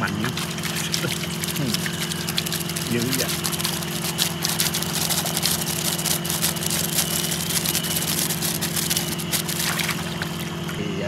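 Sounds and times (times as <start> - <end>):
shrimp flicking and splashing: 0.0 - 10.8
motor drone: 0.0 - 11.0.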